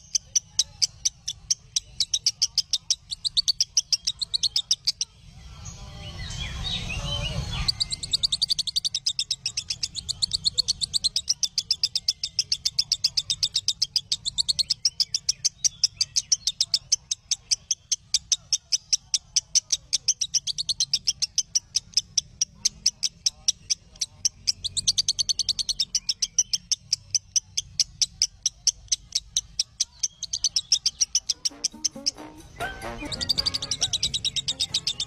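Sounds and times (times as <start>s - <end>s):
high bird chirps: 0.0s - 35.0s.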